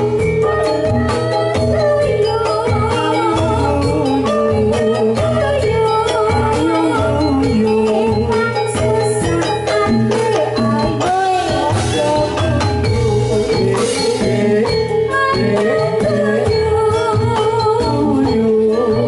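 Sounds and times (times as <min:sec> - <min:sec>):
gamelan music over loudspeakers: 0:00.0 - 0:19.0
person singing: 0:00.0 - 0:19.0.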